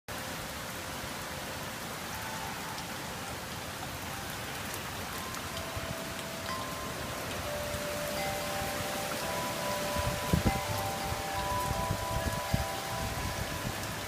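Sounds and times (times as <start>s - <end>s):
heavy rain pouring: 0.1s - 14.0s
faint ringing tones: 1.5s - 14.0s.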